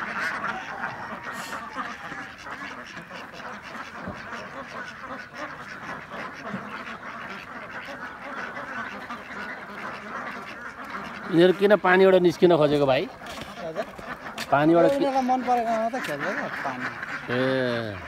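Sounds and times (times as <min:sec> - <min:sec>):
flock of ducks quacking: 0:00.0 - 0:18.0.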